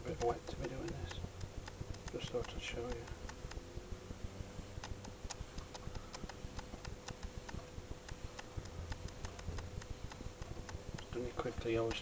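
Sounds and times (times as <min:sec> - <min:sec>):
light irregular clicks: 0:00.0 - 0:12.0
potter's wheel humming: 0:00.0 - 0:12.0.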